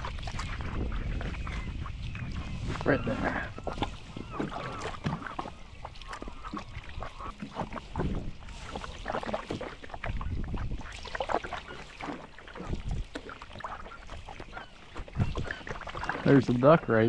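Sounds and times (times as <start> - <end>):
paddle dipping and splashing: 0.0 - 17.0
water slapping against kayak hull: 0.0 - 17.0.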